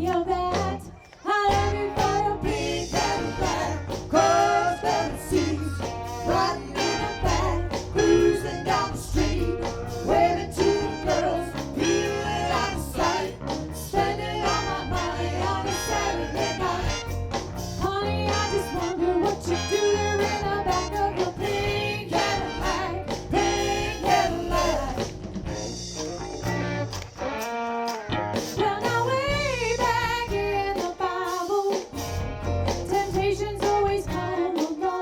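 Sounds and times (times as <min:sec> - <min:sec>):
live soul band playing: 0:00.0 - 0:35.0.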